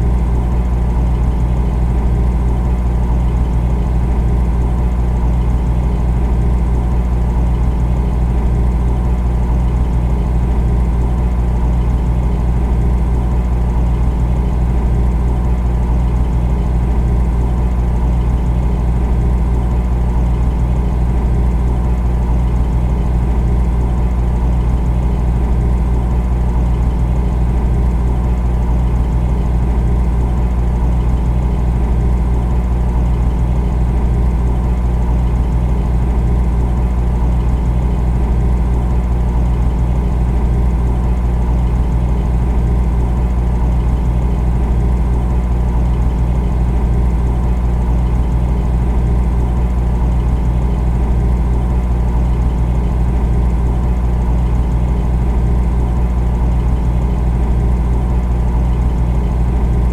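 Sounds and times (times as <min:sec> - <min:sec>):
refrigerator compressor humming: 0:00.0 - 0:59.9.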